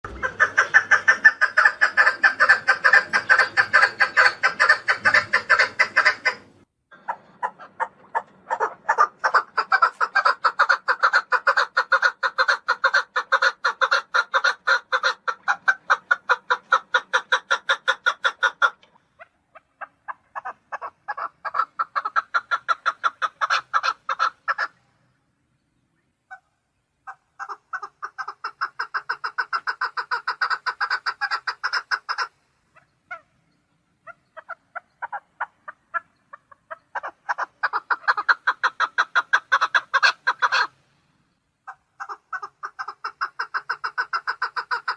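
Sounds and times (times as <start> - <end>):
partridge chuck call: 0.1 - 24.8, 26.3 - 33.4, 34.0 - 40.8, 41.6 - 44.9.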